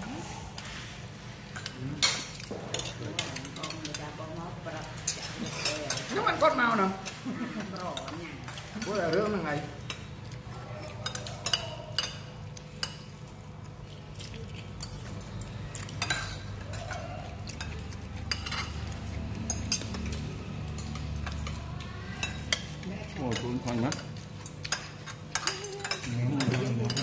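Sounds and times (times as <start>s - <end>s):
cutlery clinking against plates: 0.3s - 27.0s.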